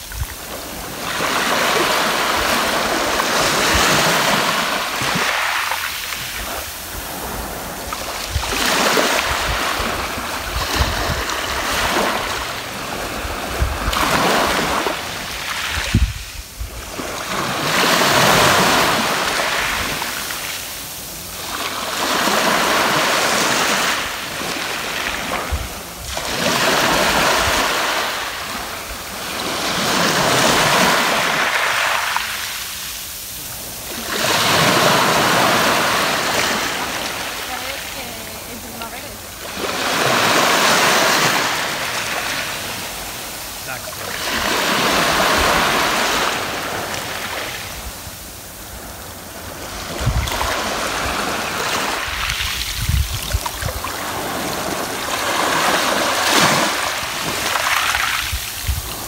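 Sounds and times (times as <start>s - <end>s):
small waves washing over pebbles: 0.0s - 59.0s.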